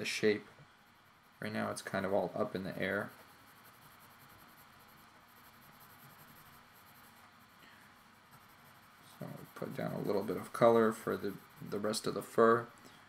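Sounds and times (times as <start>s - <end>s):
colored pencil scratching on paper: 1.0s - 12.6s.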